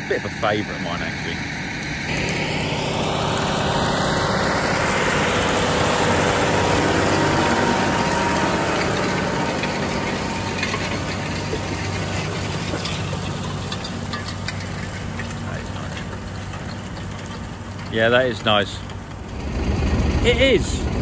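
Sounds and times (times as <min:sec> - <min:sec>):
tractor diesel engine running: 0:00.0 - 0:21.0
mechanical clatter: 0:01.8 - 0:21.0.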